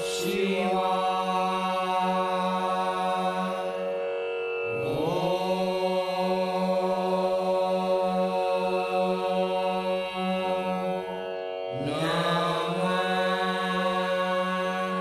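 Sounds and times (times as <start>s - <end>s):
chanted mantra in held notes: 0.0s - 15.0s
steady drone: 0.0s - 15.0s.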